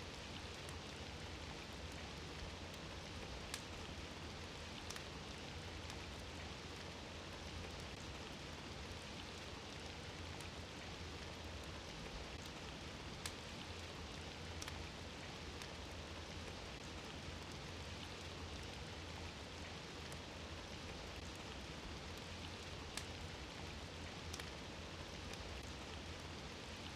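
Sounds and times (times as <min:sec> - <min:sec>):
fireplace fire hissing and crackling: 0:00.0 - 0:26.9.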